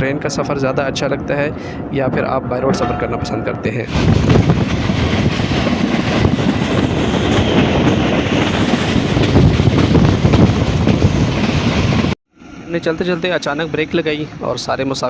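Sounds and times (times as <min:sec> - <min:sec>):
train wheels rumbling on rails: 0:00.2 - 0:15.0.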